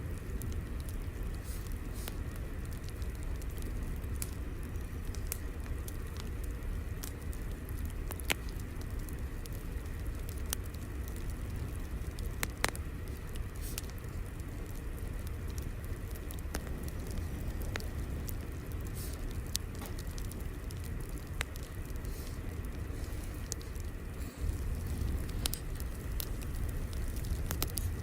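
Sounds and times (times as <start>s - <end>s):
fire crackles and pops: 0.0s - 28.0s
fire rumbling: 0.0s - 28.0s.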